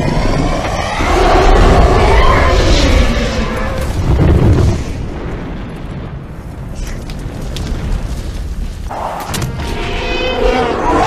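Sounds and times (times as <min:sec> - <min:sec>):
faint fire crackles: 0:00.0 - 0:10.2
deep explosion boom and rumble: 0:00.0 - 0:10.9.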